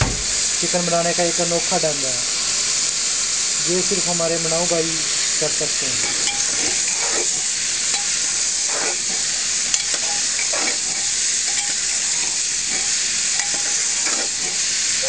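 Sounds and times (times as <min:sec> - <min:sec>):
chicken and onions sizzling: 0:00.0 - 0:15.0.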